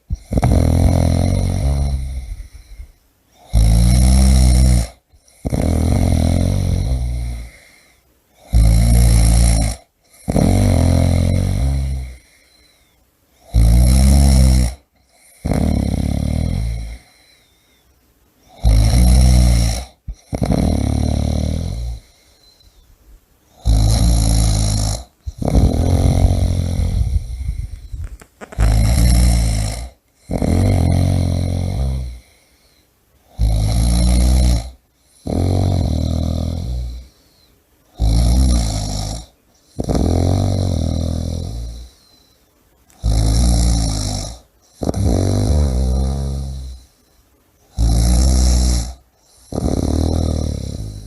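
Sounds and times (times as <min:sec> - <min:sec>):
person snoring: 0:00.1 - 0:17.7, 0:18.5 - 0:22.7, 0:23.5 - 0:47.0, 0:47.7 - 0:51.0.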